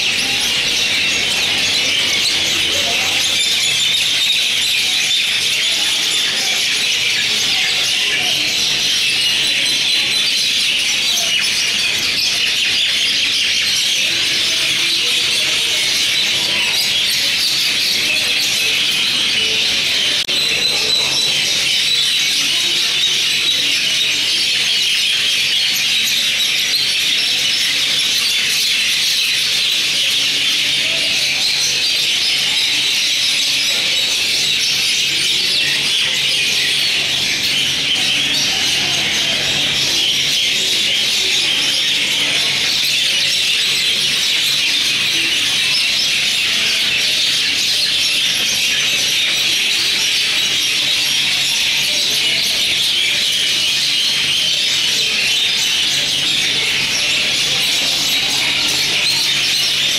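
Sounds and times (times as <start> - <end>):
birds chattering: 0.0 - 59.9.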